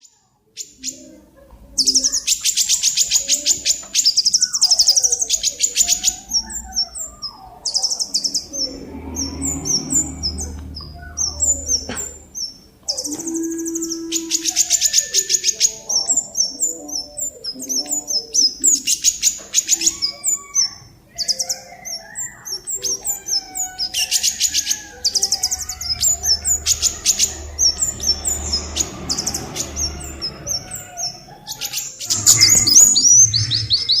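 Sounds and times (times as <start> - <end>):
songbird singing: 1.8 - 34.0.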